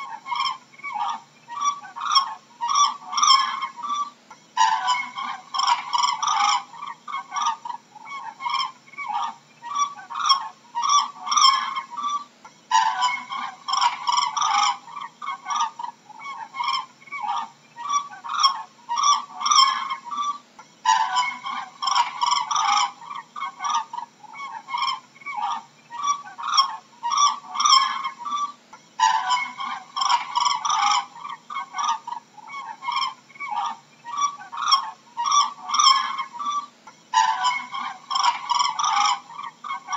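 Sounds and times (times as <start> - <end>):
cranes calling: 0.0 - 39.9.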